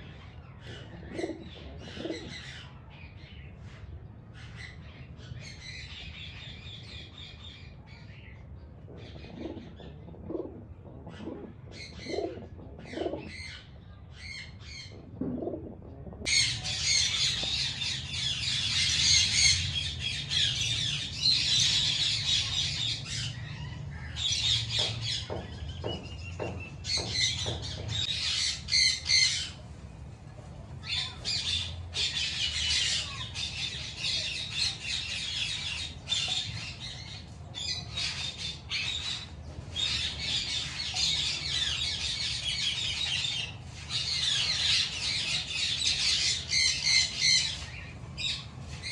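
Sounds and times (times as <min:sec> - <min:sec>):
birds chirping and squawking: 0:00.0 - 0:48.9.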